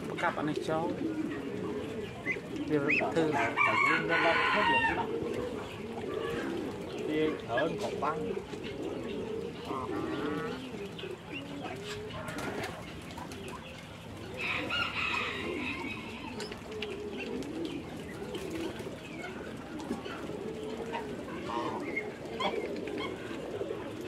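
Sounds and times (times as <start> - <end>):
ducks calling: 0.0 - 24.0.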